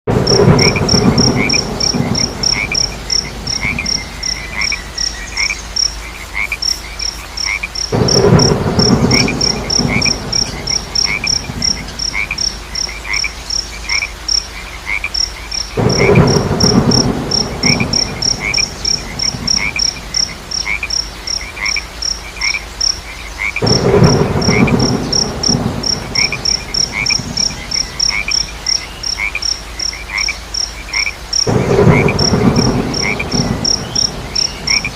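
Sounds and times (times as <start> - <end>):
cricket chirping: 0.1 - 34.9
frogs croaking: 0.1 - 34.9
light rain: 0.1 - 34.9.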